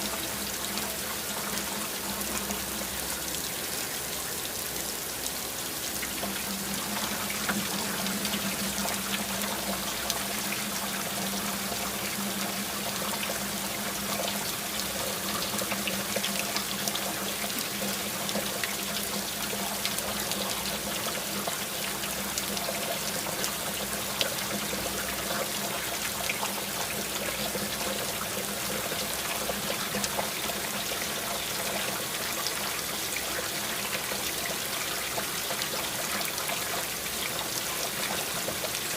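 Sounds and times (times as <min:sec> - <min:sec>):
rain pattering: 0:00.0 - 0:38.9
water trickling: 0:00.0 - 0:38.9.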